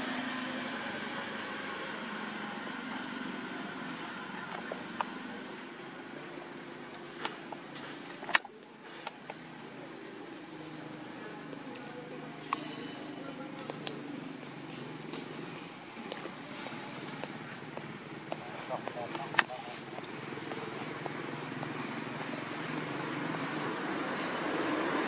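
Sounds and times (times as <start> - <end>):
high-pitched insect drone: 0.0 - 25.0
low background murmur: 0.0 - 25.0.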